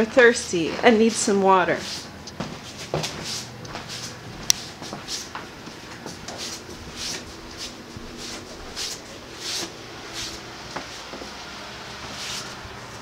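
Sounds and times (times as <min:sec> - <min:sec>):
footsteps shuffling on floor: 0:00.0 - 0:13.0.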